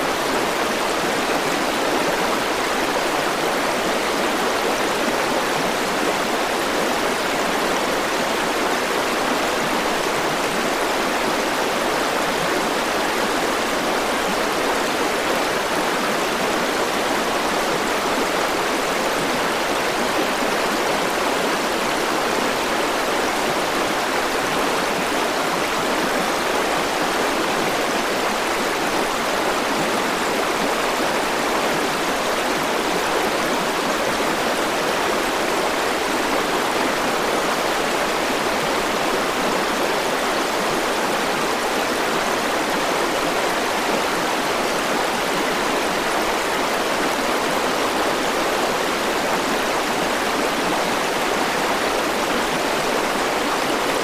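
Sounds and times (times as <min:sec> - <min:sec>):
river water rushing over stones: 0:00.0 - 0:54.0.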